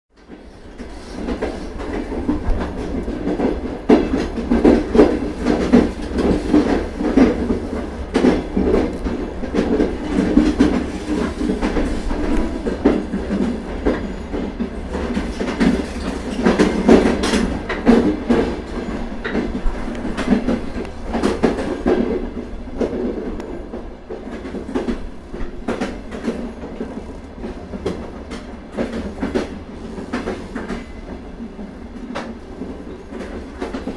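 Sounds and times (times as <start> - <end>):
train wheels clattering over rails: 0.2 - 33.9.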